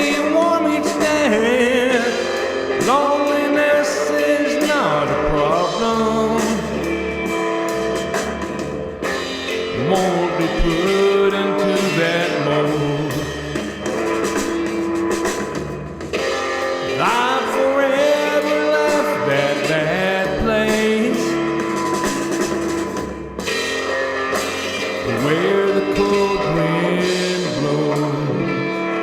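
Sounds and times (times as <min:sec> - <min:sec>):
rock song with drums and guitar: 0:00.0 - 0:29.0.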